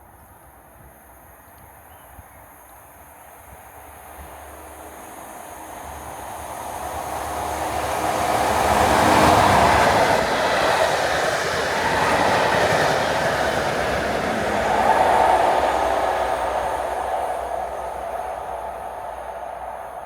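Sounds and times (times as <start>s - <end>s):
train passing at speed: 2.8s - 20.0s.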